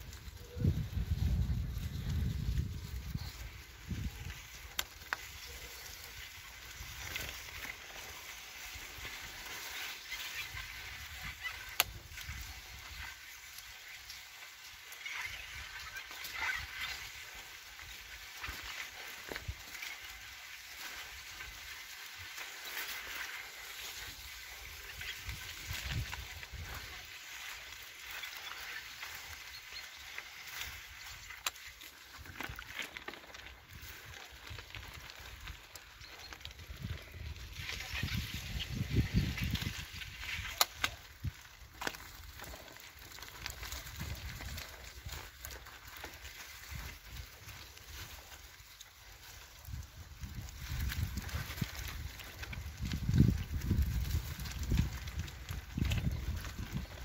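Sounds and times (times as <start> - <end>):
bicycle tyres rolling through slush: 0.0 - 57.0.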